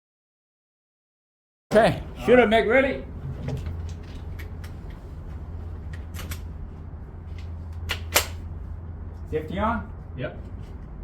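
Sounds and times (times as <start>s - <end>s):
steady low hum: 1.7s - 11.0s.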